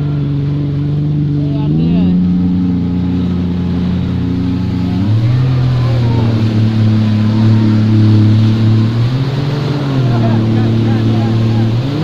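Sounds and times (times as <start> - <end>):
jet ski engine running: 0.0 - 12.0
wind: 0.0 - 12.0.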